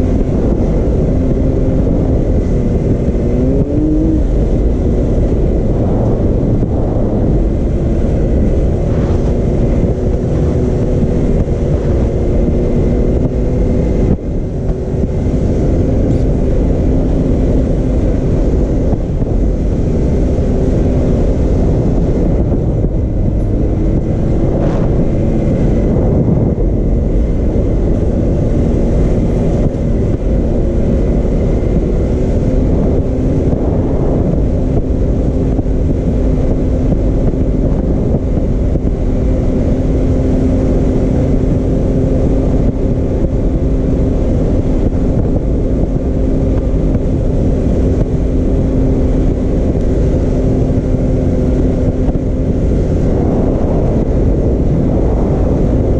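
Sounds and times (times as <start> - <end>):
heavy low rumble of ride: 0.0 - 55.9
vehicle engine running: 0.0 - 55.9.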